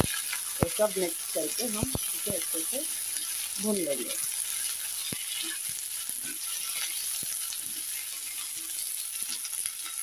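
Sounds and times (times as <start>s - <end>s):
food sizzling in oil: 0.0s - 10.0s
steel spoon scraping a pan: 1.6s - 10.0s.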